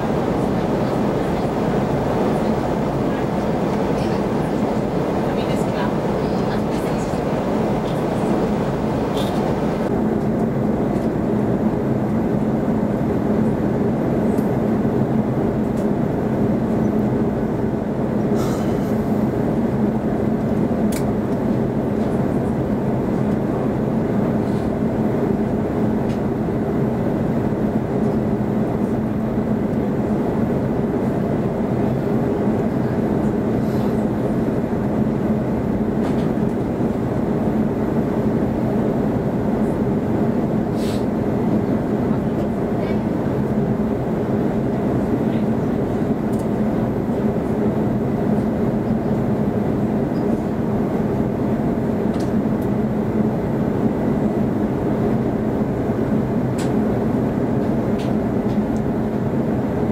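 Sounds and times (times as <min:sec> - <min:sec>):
low hum of jet engines: 0:00.0 - 0:59.9
rush of airflow in cabin: 0:00.0 - 0:59.9.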